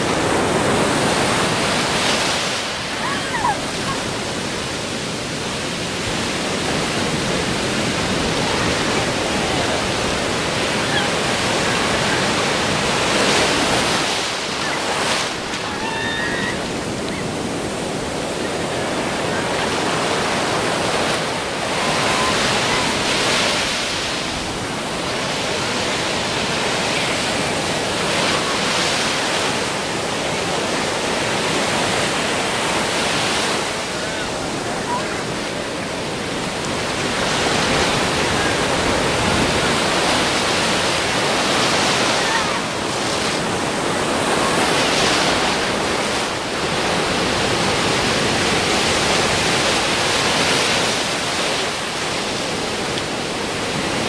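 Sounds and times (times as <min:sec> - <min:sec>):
heavy ocean surf breaking: 0:00.0 - 0:54.0
water rushing up beach: 0:00.0 - 0:54.0.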